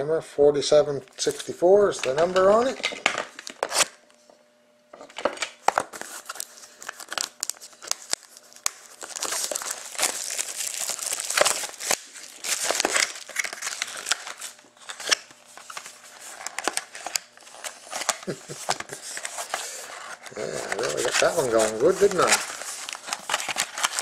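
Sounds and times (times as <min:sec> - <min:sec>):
plastic wrap tearing and crinkling: 0:02.1 - 0:04.0, 0:05.1 - 0:24.0.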